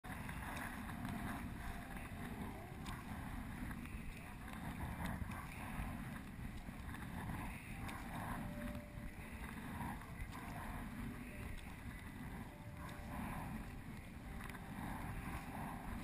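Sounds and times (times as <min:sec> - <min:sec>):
wind rumble on microphone: 0:00.0 - 0:16.0
water lapping hull: 0:00.1 - 0:16.0.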